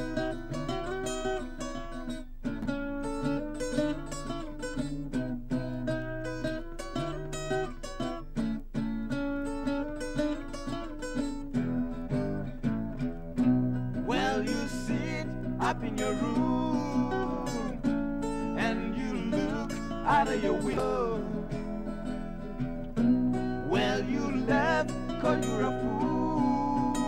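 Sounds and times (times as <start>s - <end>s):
strummed acoustic guitar chords: 0.0s - 27.0s.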